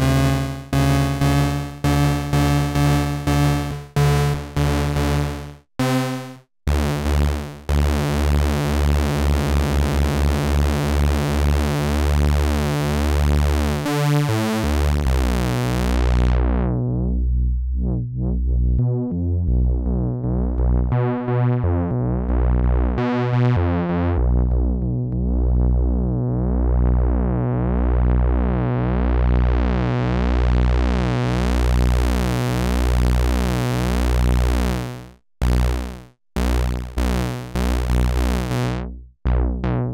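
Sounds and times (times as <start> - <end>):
synthesizer pulsing bass tone: 0.0 - 39.9.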